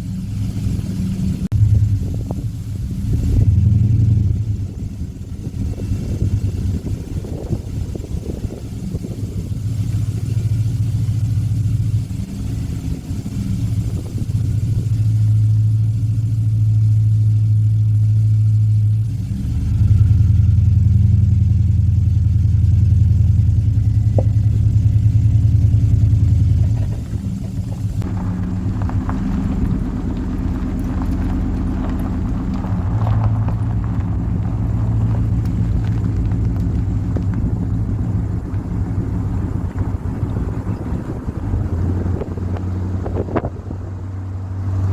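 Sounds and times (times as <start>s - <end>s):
vehicle engine and road rumble: 0.0s - 44.9s.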